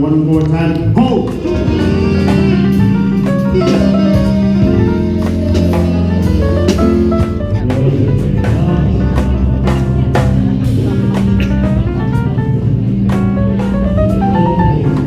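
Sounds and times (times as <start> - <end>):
guitar and drum kit music: 0.8 - 15.0.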